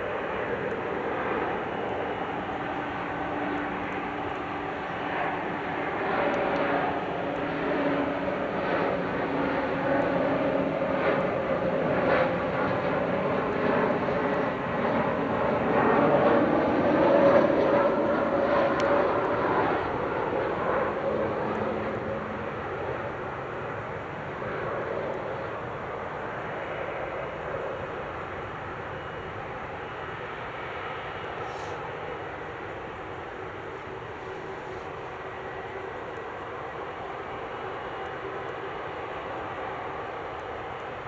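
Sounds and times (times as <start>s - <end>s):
jet airliner engines passing: 0.0s - 41.0s.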